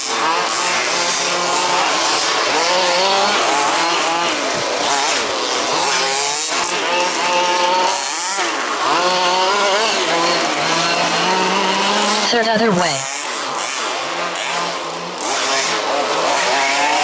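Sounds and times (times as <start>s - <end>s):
rc car engines buzzing: 0.0s - 17.0s.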